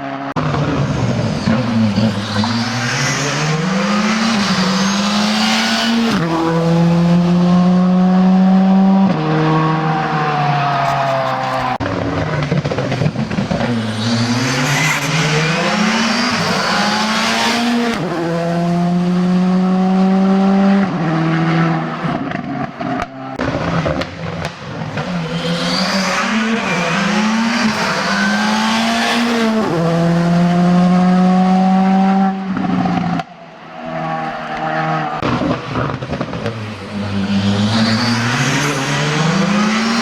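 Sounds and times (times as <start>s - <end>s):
rally car engines accelerating: 0.0s - 40.0s.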